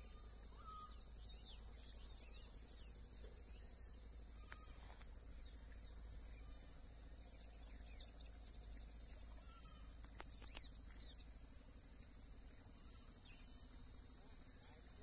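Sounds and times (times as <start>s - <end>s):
bird chirps: 0.0s - 15.0s
high-pitched insect drone: 0.0s - 15.0s.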